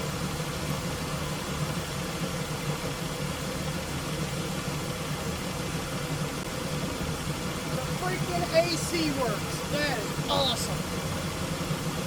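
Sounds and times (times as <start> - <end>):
air conditioning running: 0.0 - 12.0
car engine idling with misfire: 0.0 - 12.0.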